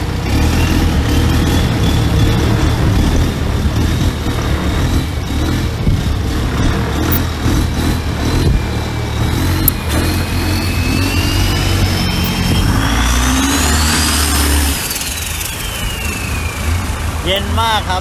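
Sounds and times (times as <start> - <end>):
boat diesel engine rumbling: 0.0 - 18.0
high engine whine: 0.0 - 18.0.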